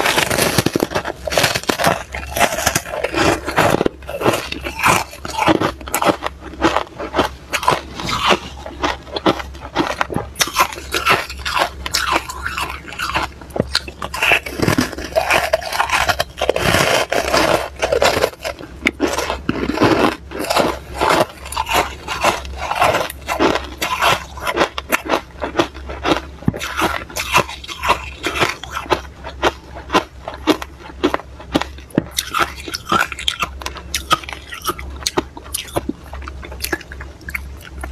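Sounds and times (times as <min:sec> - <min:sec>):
crunchy frost chewing: 0:00.0 - 0:37.9.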